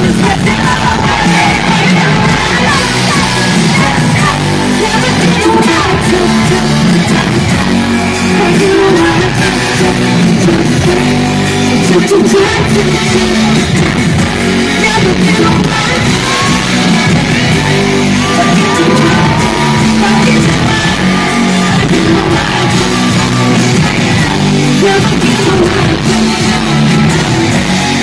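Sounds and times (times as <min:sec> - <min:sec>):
guitar: 0:00.0 - 0:28.0
live pop-rock band: 0:00.0 - 0:28.0
person singing: 0:00.0 - 0:28.0.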